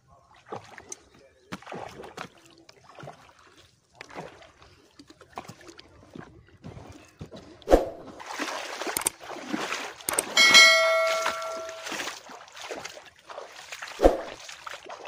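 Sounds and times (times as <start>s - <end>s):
water splashing and sloshing: 0.2s - 15.0s.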